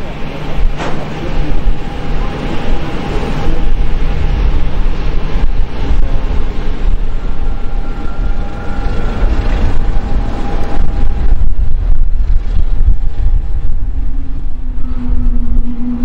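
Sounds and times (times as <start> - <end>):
jet engine low rumble: 0.0 - 16.0
lower engine tone: 0.0 - 16.0
thin engine whine: 0.0 - 16.0.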